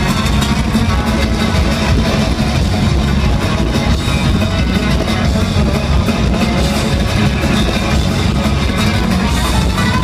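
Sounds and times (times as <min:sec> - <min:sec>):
loud live band music: 0:00.0 - 0:10.0.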